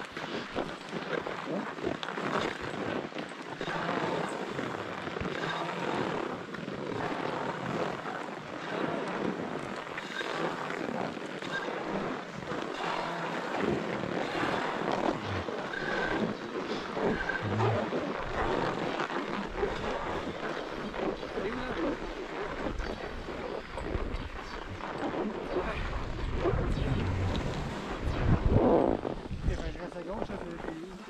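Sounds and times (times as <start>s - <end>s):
skis sliding over snow: 0.0s - 31.0s
wind on microphone: 0.0s - 31.0s.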